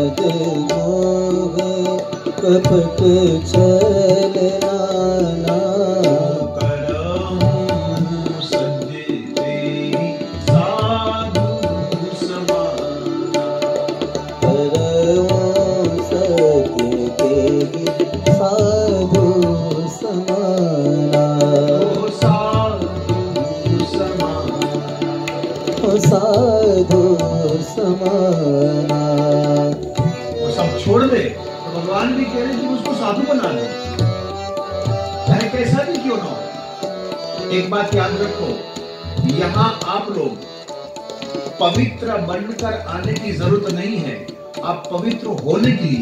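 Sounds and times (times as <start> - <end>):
person singing: 0.0 - 37.5
melody of bending long notes: 0.0 - 46.0
tabla rhythm: 0.0 - 46.0.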